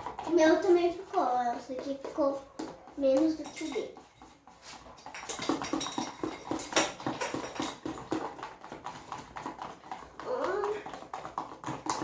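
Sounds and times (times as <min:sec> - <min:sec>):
utensil stirring slime in bowl: 0:00.0 - 0:12.0.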